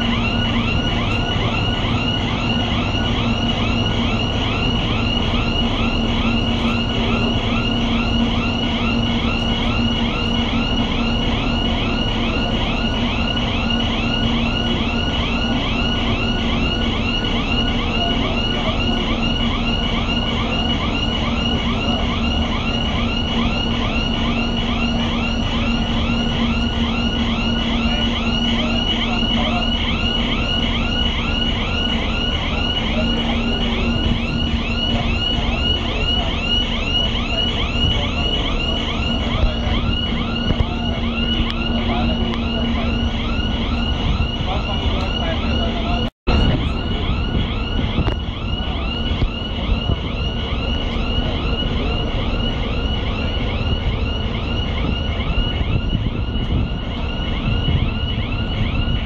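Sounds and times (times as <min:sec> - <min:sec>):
machinery hum: 0:00.0 - 0:59.0
warbling warning alarm: 0:00.0 - 0:59.0.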